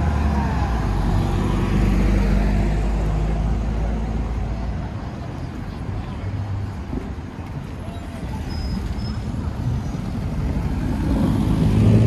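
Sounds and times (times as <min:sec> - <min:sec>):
rumble of motor vehicles: 0:00.0 - 0:12.0
tram passing: 0:00.0 - 0:12.0.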